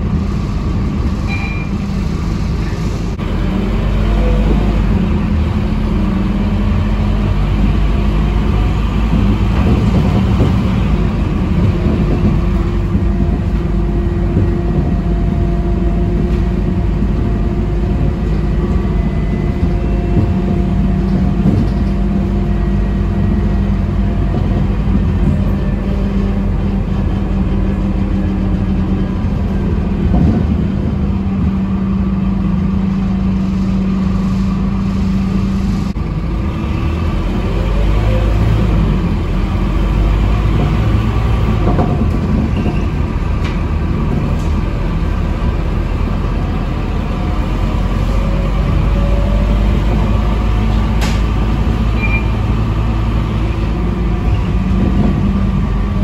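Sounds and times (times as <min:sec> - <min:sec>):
bus diesel engine running: 0:00.0 - 0:56.0
road and tyre noise: 0:00.0 - 0:56.0.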